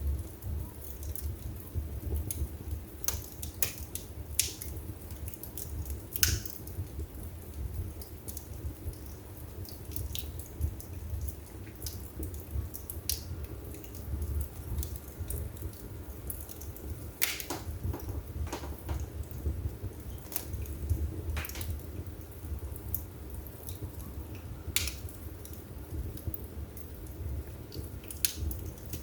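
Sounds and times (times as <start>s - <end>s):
fire rumbling in fireplace: 0.0s - 29.0s
wood crackling and popping: 0.0s - 29.0s.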